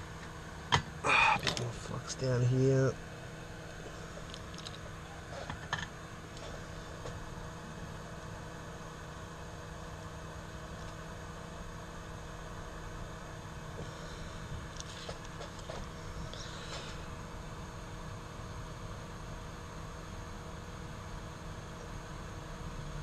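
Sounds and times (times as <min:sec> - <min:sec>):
electrical hum and hiss: 0:00.0 - 0:23.0.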